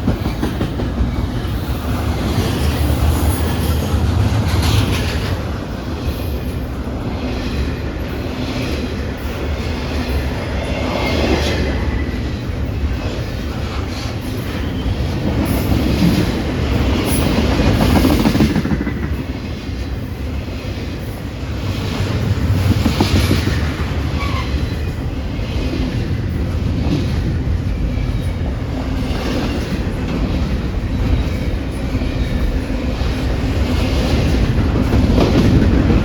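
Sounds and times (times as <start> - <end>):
freight train wheels rumbling on rail: 0.0 - 36.0.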